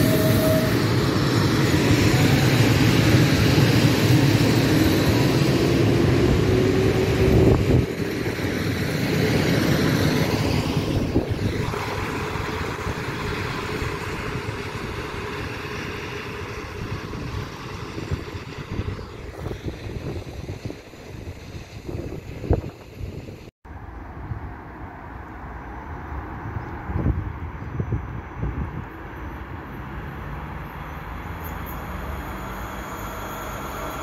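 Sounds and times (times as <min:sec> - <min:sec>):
electric train whine: 0:00.0 - 0:23.5, 0:27.6 - 0:34.0.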